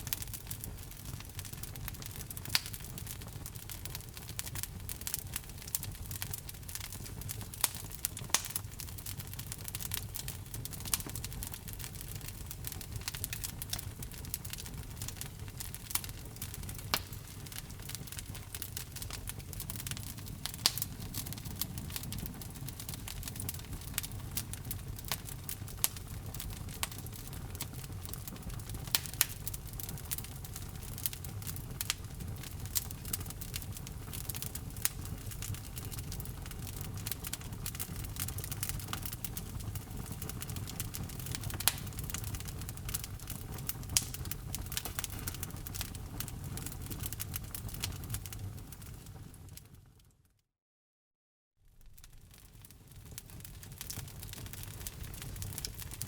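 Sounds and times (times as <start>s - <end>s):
low rumble of flames: 0.0s - 50.0s, 51.7s - 56.0s
fire crackles and pops: 0.0s - 50.2s, 51.6s - 56.0s.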